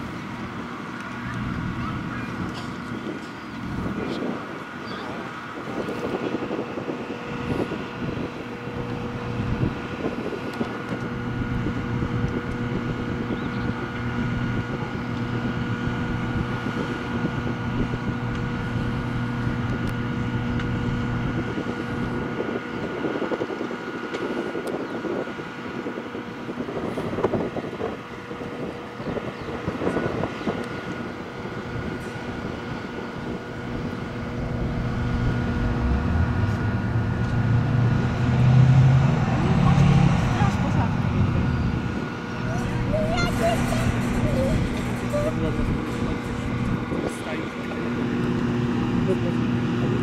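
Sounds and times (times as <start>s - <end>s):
high machinery whine: 0.0s - 50.0s
low engine drone: 0.0s - 50.0s
wind noise on microphone: 0.0s - 50.0s.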